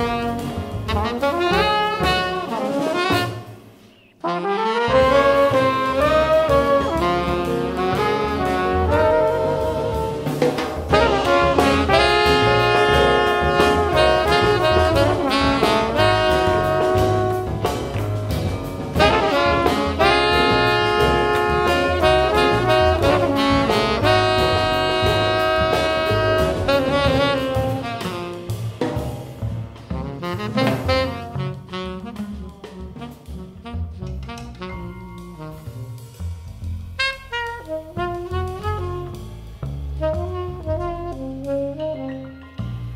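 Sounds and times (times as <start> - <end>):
tenor saxophone: 0.0 - 3.6, 4.2 - 17.8, 19.0 - 28.6, 30.1 - 36.1, 37.0 - 39.4, 40.0 - 42.6
trumpet: 0.0 - 3.6, 4.2 - 18.1, 18.9 - 29.1, 29.9 - 36.2, 36.9 - 42.8
double bass: 0.0 - 42.9
drums: 0.0 - 42.9.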